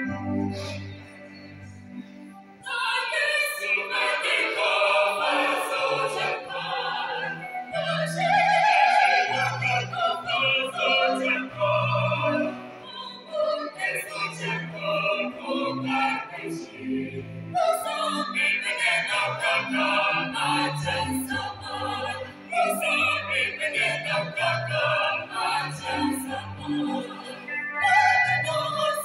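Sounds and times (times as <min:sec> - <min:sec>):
mixed choir singing in harmony: 0:00.0 - 0:29.0.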